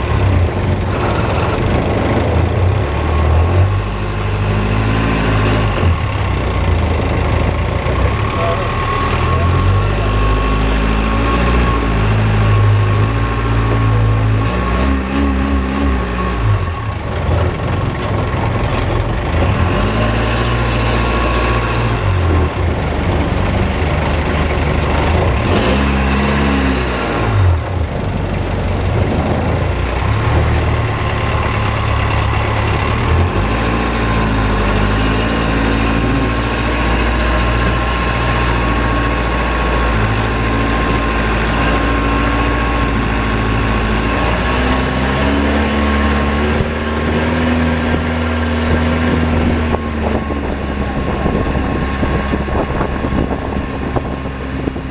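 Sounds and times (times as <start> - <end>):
boat engine revving: 0.0 - 54.9.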